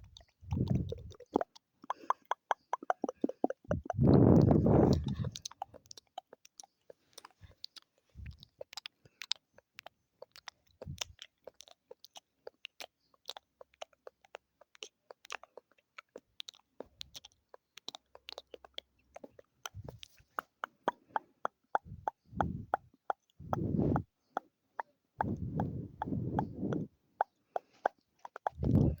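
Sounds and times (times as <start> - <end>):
wet mouth clicks and smacks: 0.0 - 29.0.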